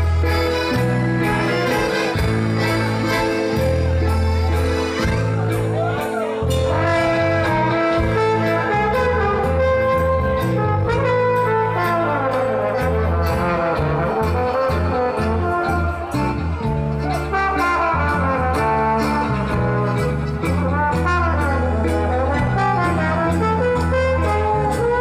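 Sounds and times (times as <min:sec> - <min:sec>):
live band horn instrumental: 0:00.0 - 0:25.0
tuba bass line: 0:00.0 - 0:25.0.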